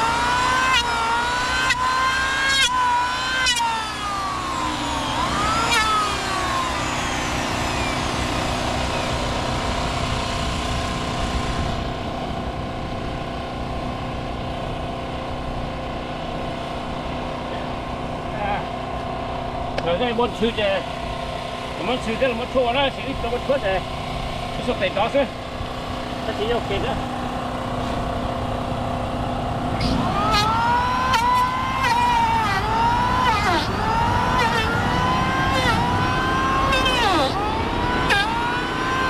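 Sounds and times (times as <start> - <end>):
engine revving: 0.0 - 39.0.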